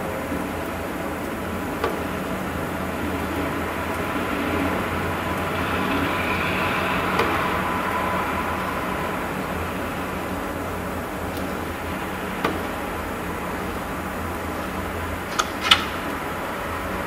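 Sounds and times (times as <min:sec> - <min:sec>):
low hum and rumble: 0:00.0 - 0:15.3
noise wash: 0:00.0 - 0:17.0.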